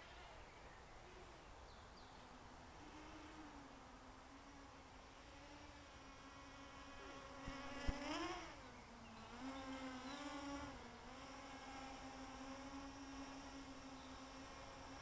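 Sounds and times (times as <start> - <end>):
quadcopter motors buzzing: 0.0 - 1.4, 2.7 - 15.0.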